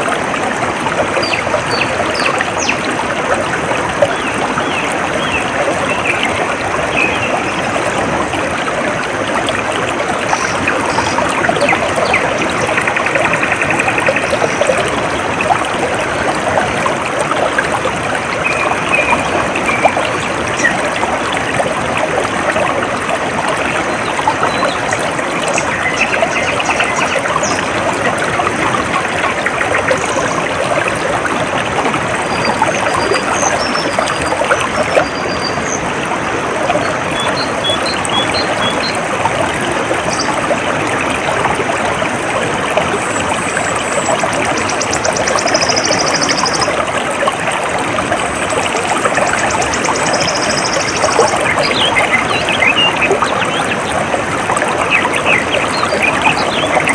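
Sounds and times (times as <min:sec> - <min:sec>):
stream water trickling: 0:00.0 - 0:56.9.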